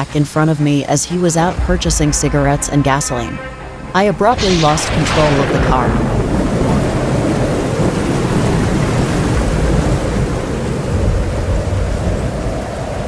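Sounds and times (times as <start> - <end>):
heavy rain: 0.0 - 13.0
wind: 0.0 - 13.0.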